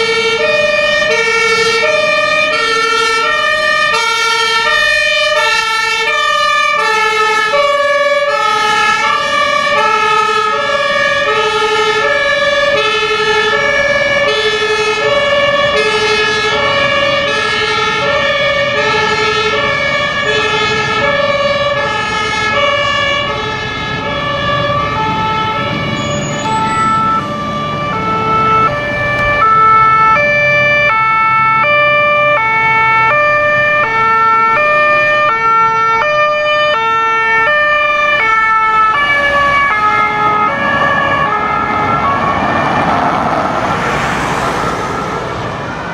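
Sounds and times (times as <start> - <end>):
two-tone fire engine horn: 0.0 - 43.0
engine and road noise: 0.0 - 45.9.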